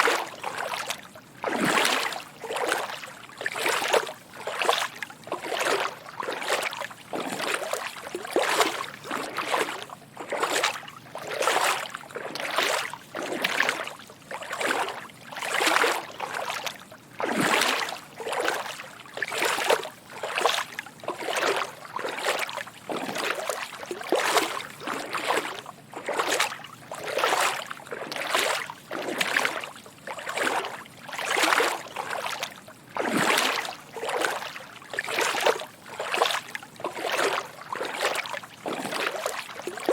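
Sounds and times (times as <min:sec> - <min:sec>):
footsteps wading through shallow water: 0:00.0 - 0:39.9.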